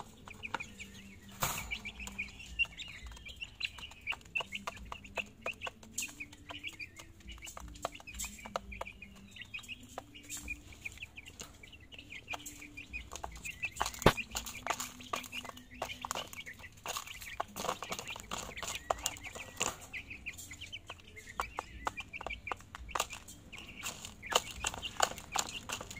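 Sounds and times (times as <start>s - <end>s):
chicks pecking plastic feeder: 0.0s - 25.9s
chicks peeping: 0.0s - 25.9s.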